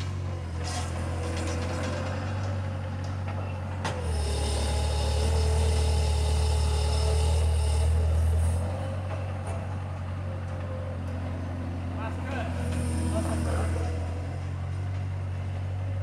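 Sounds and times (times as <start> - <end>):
hydraulic whine: 0.0 - 16.0
loader engine running: 0.0 - 16.0.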